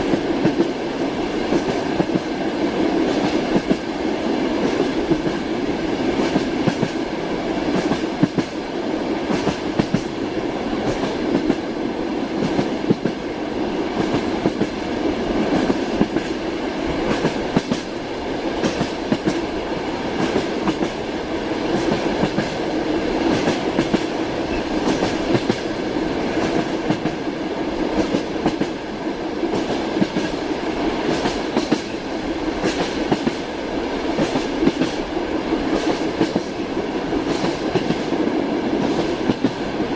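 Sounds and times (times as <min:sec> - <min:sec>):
train rumble inside carriage: 0:00.0 - 0:39.9.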